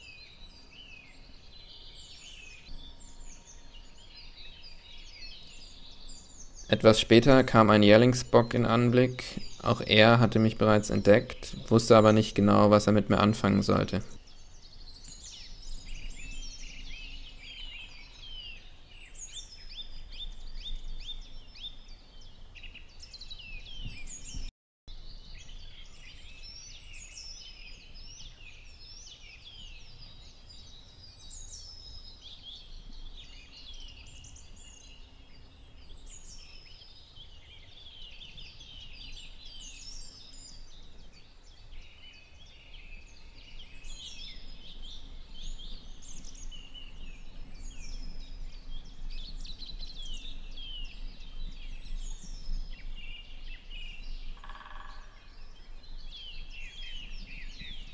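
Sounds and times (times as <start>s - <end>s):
songbirds singing: 0.0s - 57.9s.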